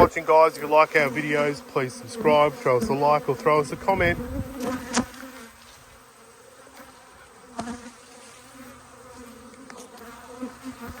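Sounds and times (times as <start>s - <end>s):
honey bees buzzing: 0.0s - 11.0s.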